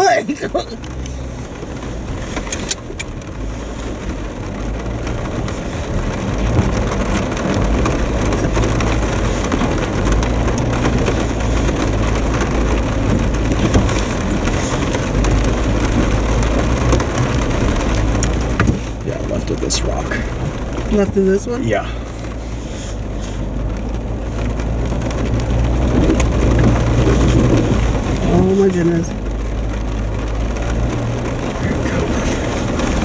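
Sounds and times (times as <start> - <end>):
car engine pulling: 0.0 - 33.0
rain tapping on windshield: 0.0 - 33.0.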